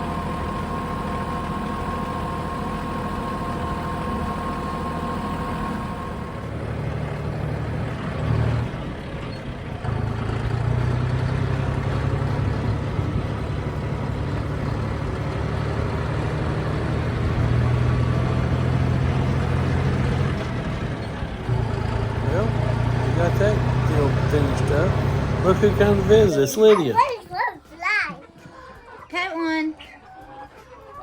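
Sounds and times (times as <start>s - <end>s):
tractor engine droning: 0.0s - 27.1s.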